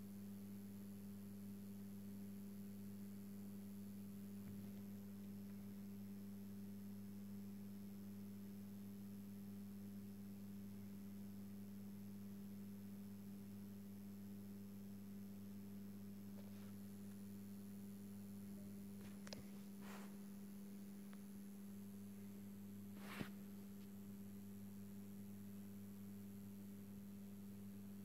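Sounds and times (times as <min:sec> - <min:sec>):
lamp ballast electrical hum: 0:00.0 - 0:28.0.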